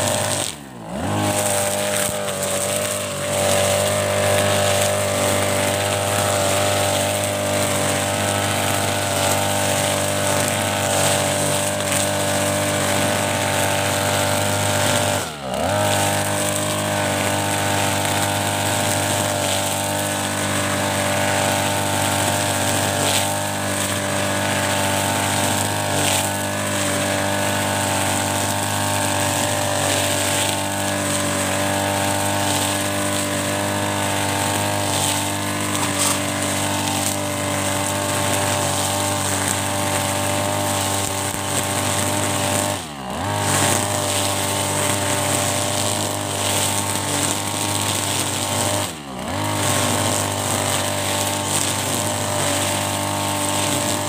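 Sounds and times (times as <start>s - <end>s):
brush cutter engine running: 0.0s - 54.0s
trimmer head mowing wet grass: 0.0s - 54.0s.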